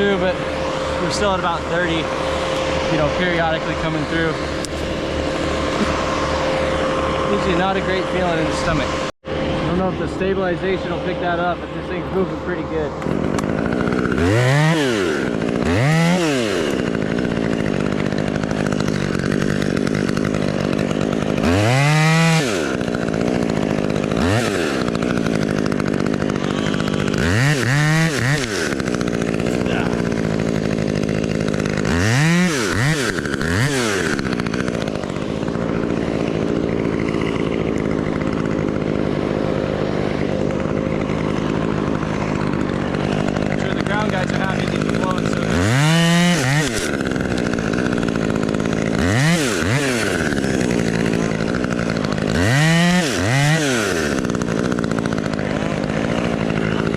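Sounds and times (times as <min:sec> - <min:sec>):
chainsaw idling and revving: 0:00.0 - 0:56.9.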